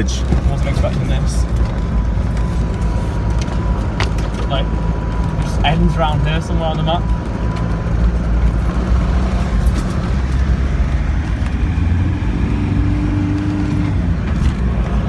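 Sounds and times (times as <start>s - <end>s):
off-road vehicle engine droning: 0.0s - 15.0s.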